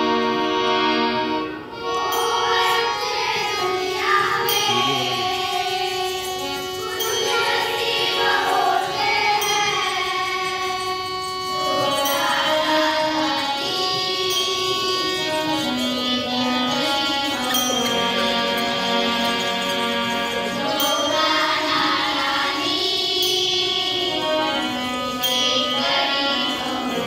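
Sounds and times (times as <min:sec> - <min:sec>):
instrumental music: 0:00.0 - 0:27.0.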